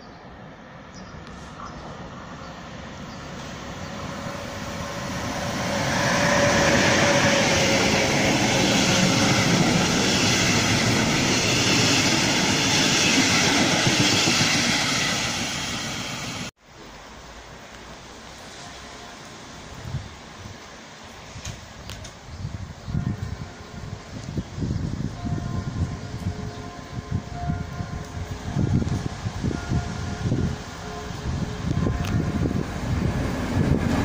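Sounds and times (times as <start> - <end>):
passenger train passing: 0.0 - 34.0.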